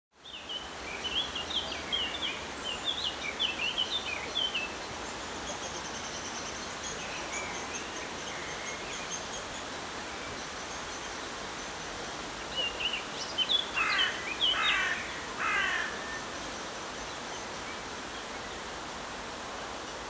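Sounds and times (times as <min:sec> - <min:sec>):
steady background hiss: 0:00.2 - 0:20.0.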